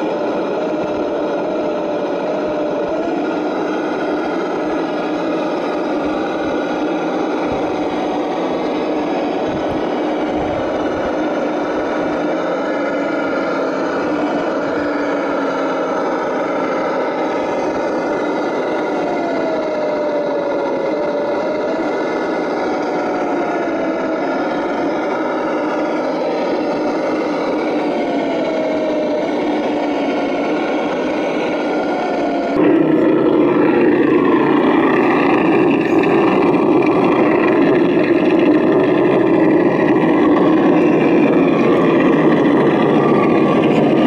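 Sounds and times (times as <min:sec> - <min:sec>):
low rumbles: 0:00.0 - 0:44.0
toy car motor drone: 0:00.0 - 0:44.0.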